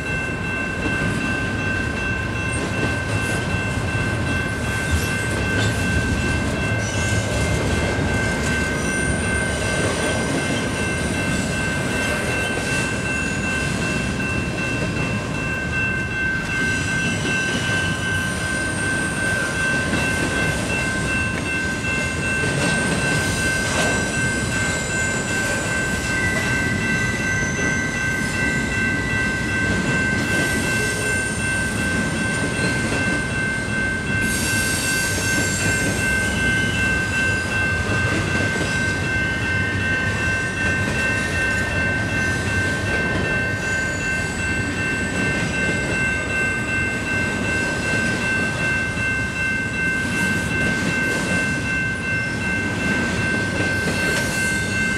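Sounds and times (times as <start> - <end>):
crossing bell ringing: 0.0 - 54.9.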